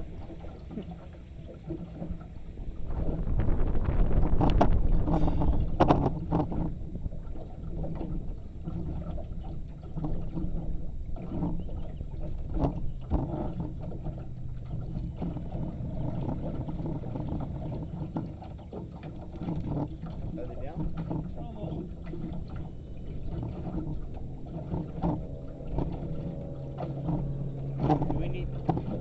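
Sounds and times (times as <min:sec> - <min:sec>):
electric boat motor hum: 0:00.0 - 0:29.0
water splashing against hull: 0:00.0 - 0:29.0.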